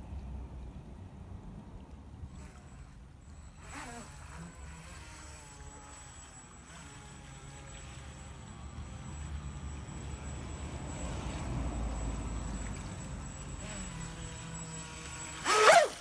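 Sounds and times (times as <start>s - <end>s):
boat motor whining: 2.3s - 16.0s.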